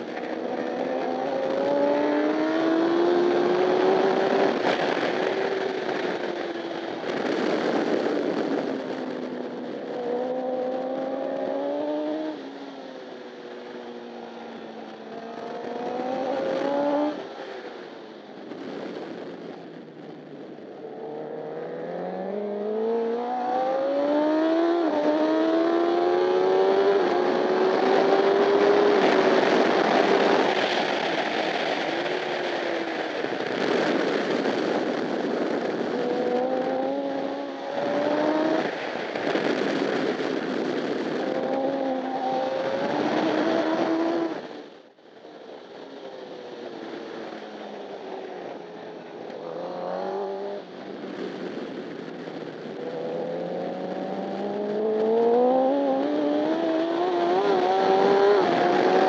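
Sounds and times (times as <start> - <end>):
motorcycle engine revving: 0.0 - 6.4, 7.1 - 12.7, 15.0 - 17.5, 20.8 - 44.7, 47.6 - 50.8, 52.8 - 59.0.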